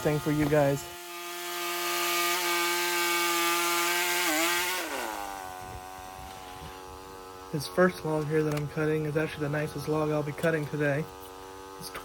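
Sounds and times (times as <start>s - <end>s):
sawmill whining: 0.0s - 12.0s.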